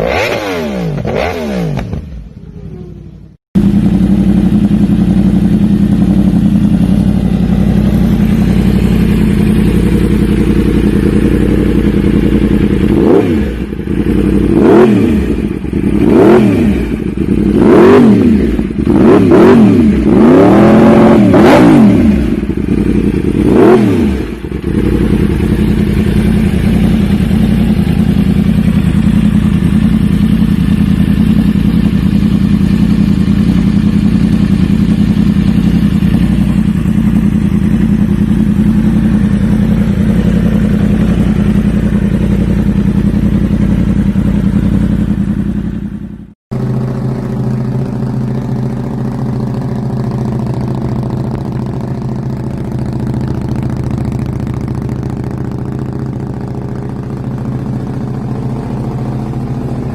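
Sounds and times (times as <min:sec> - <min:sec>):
motorcycle idling: 0:00.0 - 0:59.9
superbike engine running: 0:00.0 - 0:59.9.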